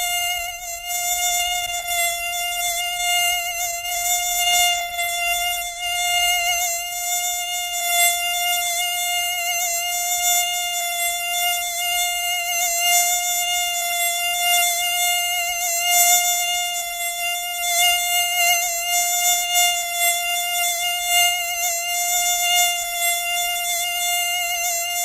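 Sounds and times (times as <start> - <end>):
mosquito buzzing: 0.0 - 25.0.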